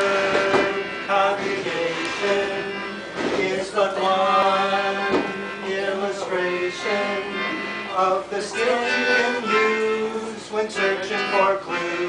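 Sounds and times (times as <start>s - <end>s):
melodica playing slow tune: 0.0s - 3.2s, 4.0s - 12.0s.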